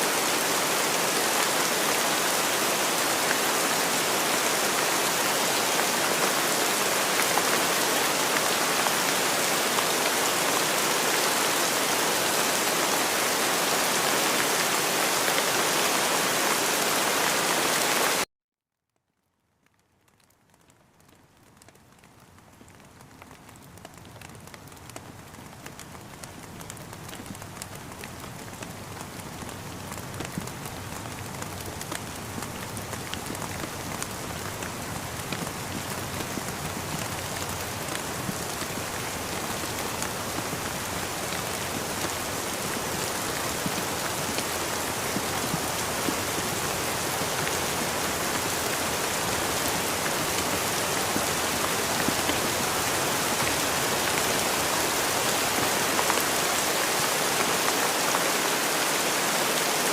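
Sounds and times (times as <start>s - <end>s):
rain falling steadily: 0.0s - 18.3s, 18.9s - 59.9s.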